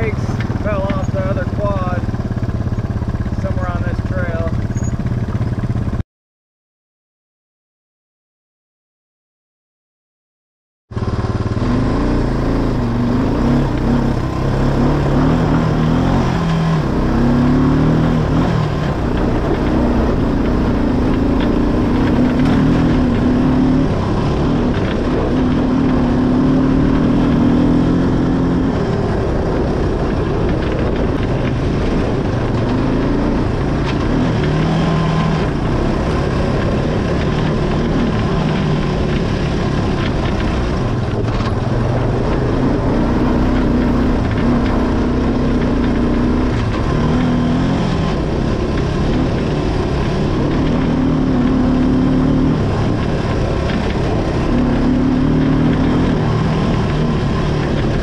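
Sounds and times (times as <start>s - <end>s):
atv engine revving: 0.0s - 6.0s, 10.9s - 58.0s
rush of ride noise: 0.0s - 6.0s, 10.9s - 58.0s.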